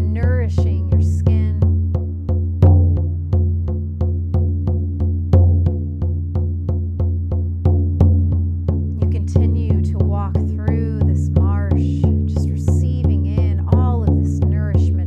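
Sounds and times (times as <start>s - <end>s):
frame drum beating: 0.0s - 15.0s.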